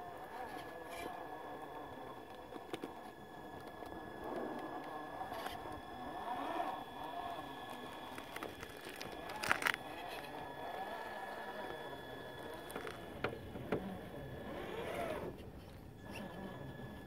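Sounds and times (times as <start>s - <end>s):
toy car motor whining: 0.0s - 17.0s.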